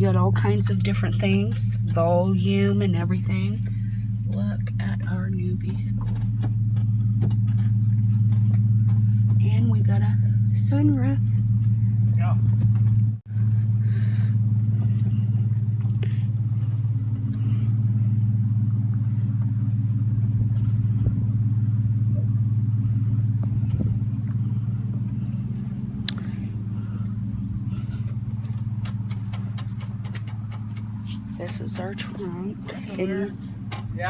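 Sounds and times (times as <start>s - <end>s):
car engine hum from cabin: 0.0s - 34.0s.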